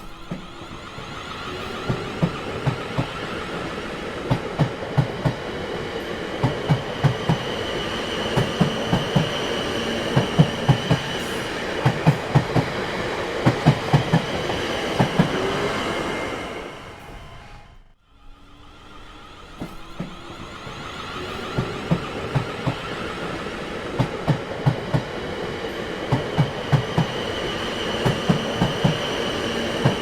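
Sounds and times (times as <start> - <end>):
train rumbling over rails: 0.0 - 30.0.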